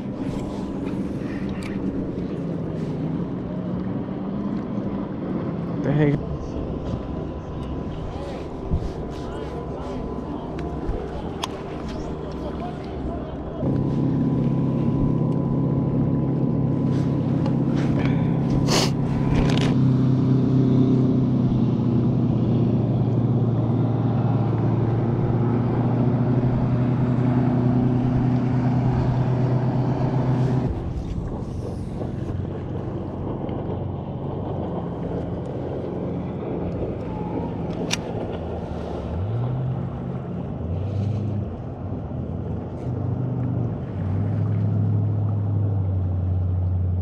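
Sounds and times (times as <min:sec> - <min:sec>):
low wind rumble: 0:00.0 - 0:47.0.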